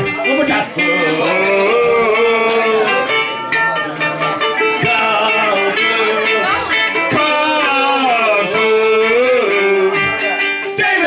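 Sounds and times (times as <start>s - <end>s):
man singing: 0.0s - 11.0s
ukulele strumming: 0.0s - 11.0s.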